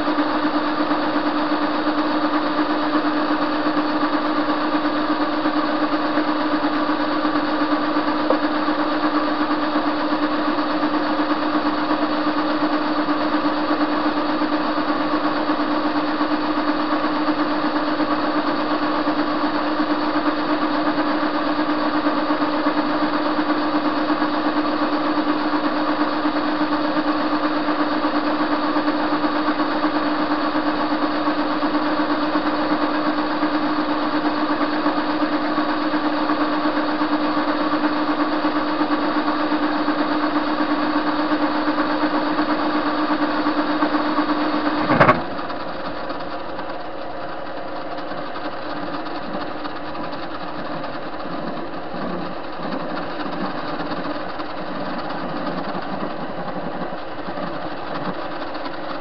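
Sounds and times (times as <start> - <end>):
high motor whine: 0.0 - 59.0
metal lathe humming: 0.0 - 59.0.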